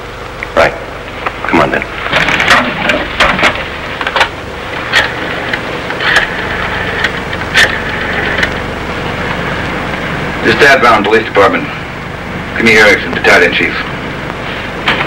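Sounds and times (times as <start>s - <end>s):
television soundtrack hiss: 0.0s - 15.0s.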